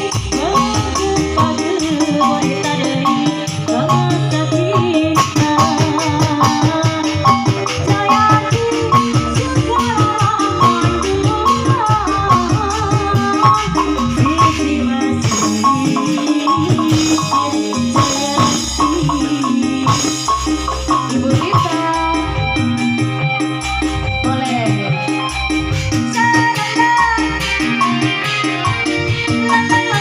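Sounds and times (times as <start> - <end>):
busy percussion pattern: 0.0 - 30.0
wavering melody line: 0.0 - 30.0.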